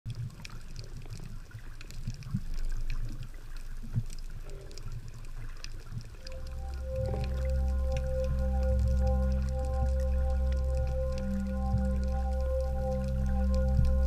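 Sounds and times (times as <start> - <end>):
faint ticks and clicks: 0.1 - 14.0
water sloshing underwater: 0.1 - 14.0.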